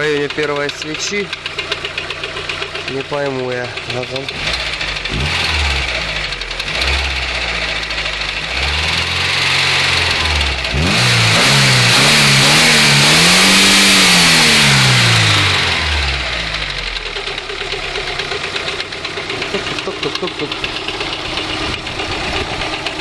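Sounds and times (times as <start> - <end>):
car engine idling and revving: 0.0 - 23.0
engine knocking: 0.0 - 23.0.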